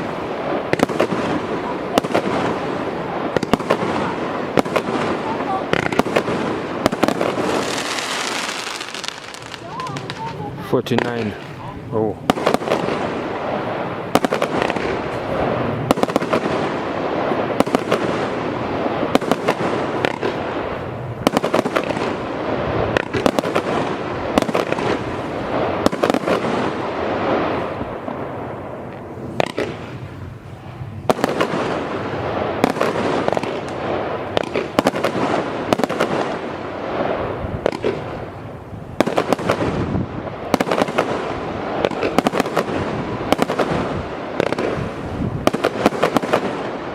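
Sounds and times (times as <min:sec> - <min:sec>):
firework bursts: 0:00.0 - 0:46.9
firework crackle: 0:00.0 - 0:46.9.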